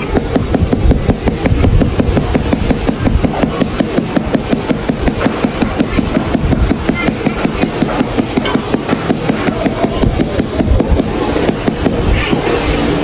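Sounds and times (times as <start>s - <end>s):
rubber mallet tapping tile: 0.0s - 12.4s.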